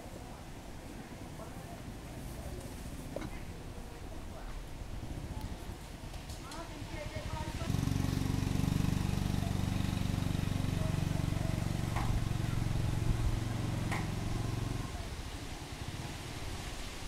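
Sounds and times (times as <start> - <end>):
low engine hum: 1.7 - 17.0.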